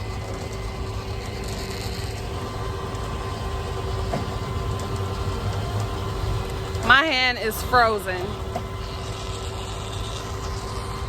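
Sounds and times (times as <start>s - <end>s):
car engine humming: 0.0s - 11.0s
faint constant tone: 0.0s - 11.0s.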